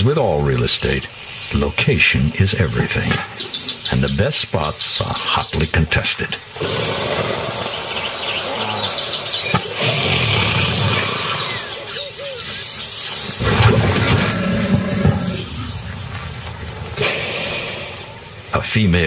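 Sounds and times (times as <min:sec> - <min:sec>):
birds chirping: 0:00.0 - 0:19.0
noisy natural background: 0:00.0 - 0:19.0.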